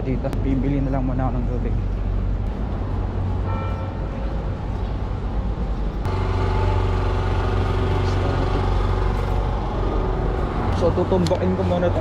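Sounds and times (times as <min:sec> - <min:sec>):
city street traffic: 0:00.0 - 0:12.0
steady multi-tone hum: 0:01.9 - 0:12.0.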